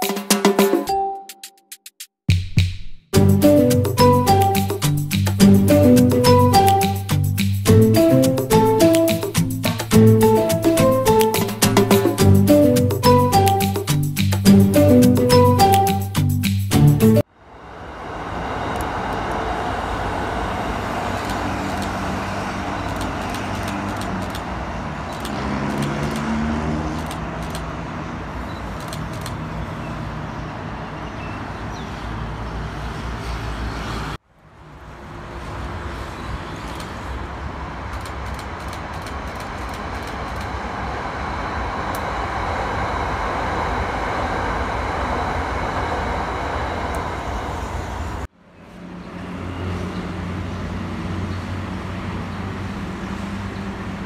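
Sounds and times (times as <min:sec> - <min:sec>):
city road traffic: 0:03.1 - 0:54.0.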